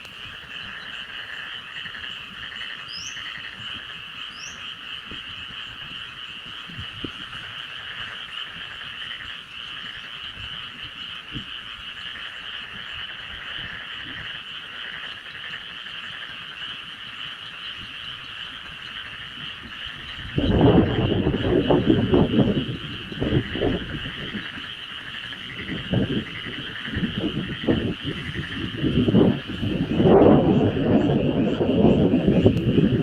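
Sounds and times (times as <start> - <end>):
frogs calling in chorus: 0.0 - 33.0.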